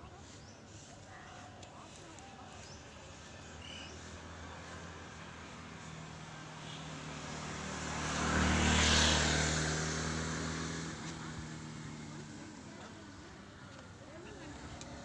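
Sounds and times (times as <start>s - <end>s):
vehicle passing by: 2.5s - 15.0s.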